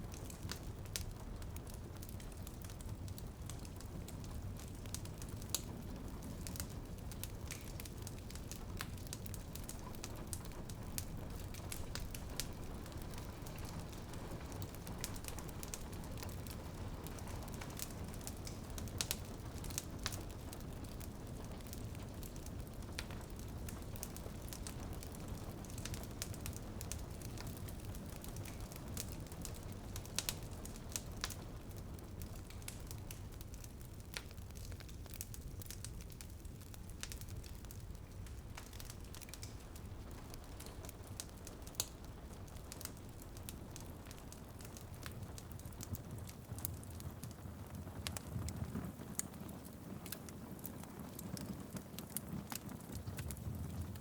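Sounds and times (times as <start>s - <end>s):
rain dripping on a window: 0.0s - 54.0s
wood fire crackling: 0.0s - 54.0s.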